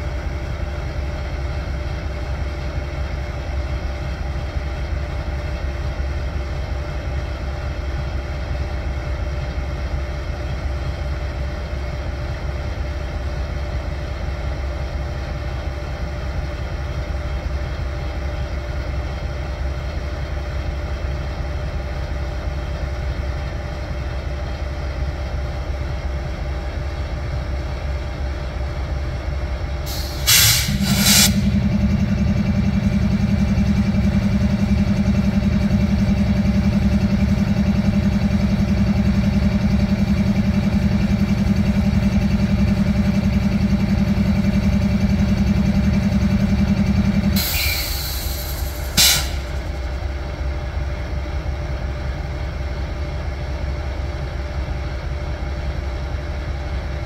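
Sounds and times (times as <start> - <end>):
constant whine: 0.0 - 57.0
locomotive idling rumble: 0.0 - 57.0.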